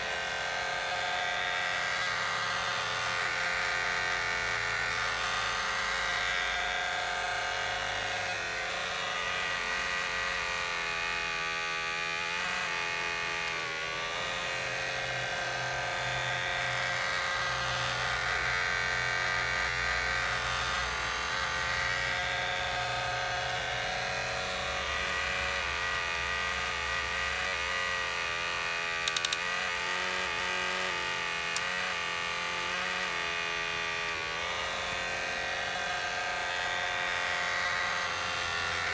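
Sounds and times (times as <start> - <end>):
small electric motors whining: 0.0 - 38.9.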